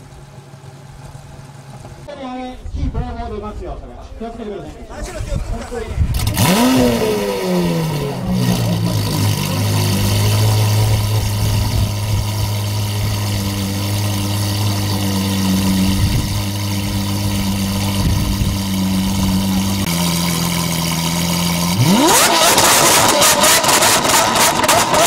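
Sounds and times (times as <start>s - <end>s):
car engine idling and revving: 0.0s - 2.1s, 5.3s - 25.0s
exhaust crackling: 0.0s - 2.1s, 5.0s - 25.0s.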